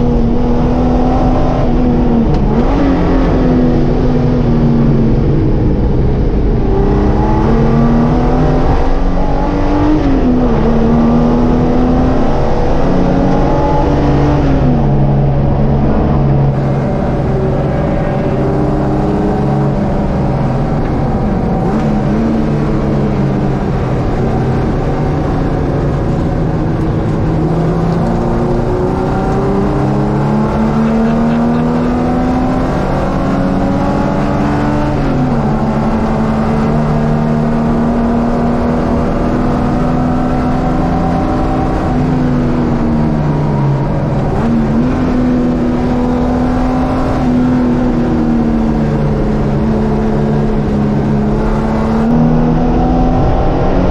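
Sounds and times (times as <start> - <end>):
race car engine running hard: 0.0 - 53.9.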